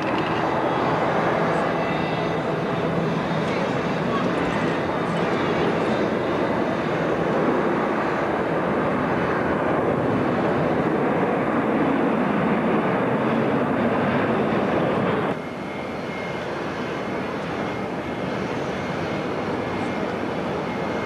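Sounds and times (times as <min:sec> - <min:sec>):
distant jet engine noise: 0:00.0 - 0:21.0
jet engines at take-off power: 0:00.0 - 0:21.0.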